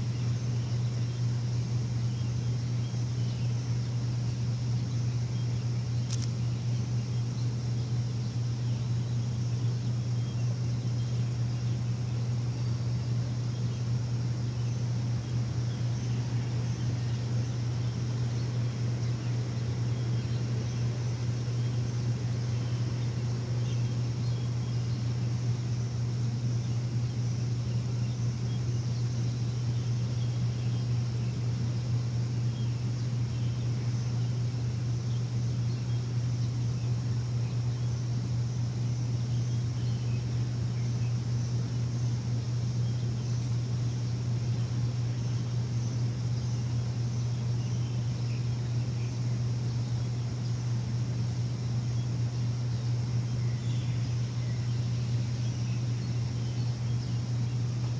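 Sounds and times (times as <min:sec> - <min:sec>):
faint bird chirps: 0:00.0 - 0:57.9
low machine hum: 0:00.0 - 0:57.9.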